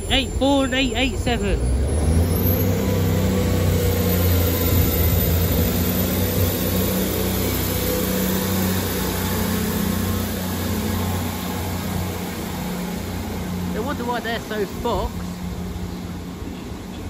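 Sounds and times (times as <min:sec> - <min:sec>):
diesel train engines under power: 0:00.0 - 0:17.0.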